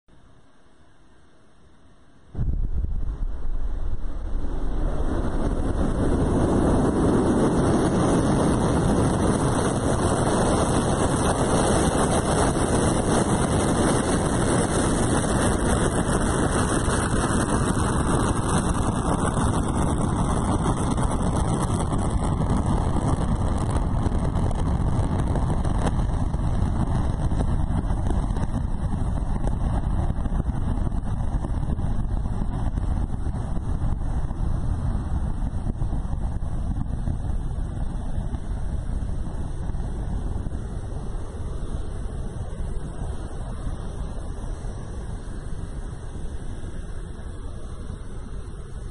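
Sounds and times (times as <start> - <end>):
rocket launch rumble: 2.2 - 48.9.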